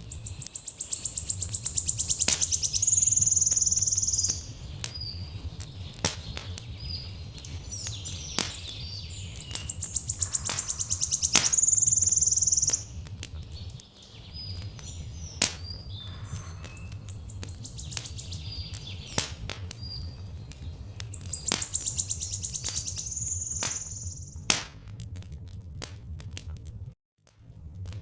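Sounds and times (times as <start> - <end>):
birds chirping: 0.0 - 24.4
wood fire crackling: 0.0 - 26.4
low steady rumble: 0.0 - 26.9.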